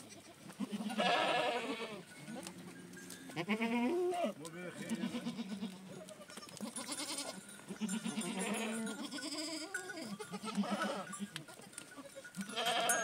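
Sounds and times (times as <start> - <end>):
goats bleating: 0.0 - 13.0.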